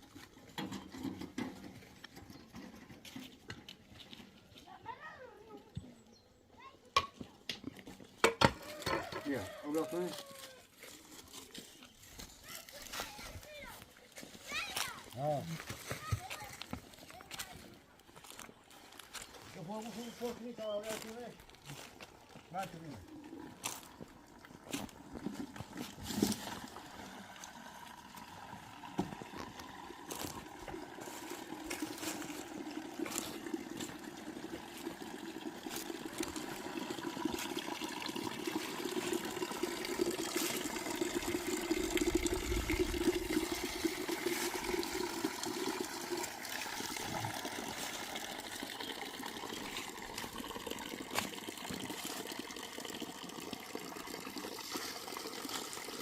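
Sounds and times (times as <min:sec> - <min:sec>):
water pouring in a stream: 0:00.0 - 0:02.8, 0:08.2 - 0:56.0.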